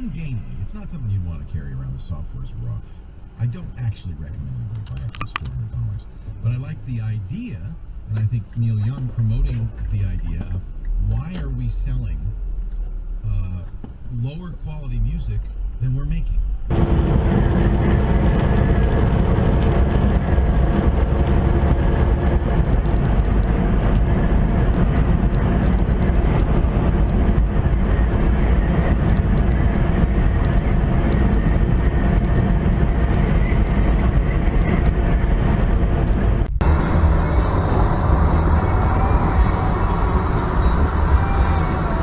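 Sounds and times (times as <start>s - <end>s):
vehicle road and engine rumble: 0.0s - 42.0s.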